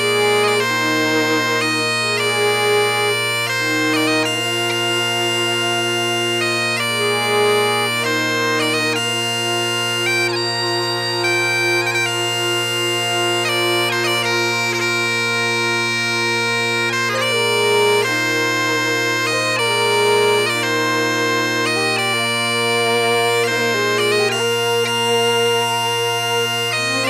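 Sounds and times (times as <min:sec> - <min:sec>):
bagpipes playing a tune: 0:00.0 - 0:27.0.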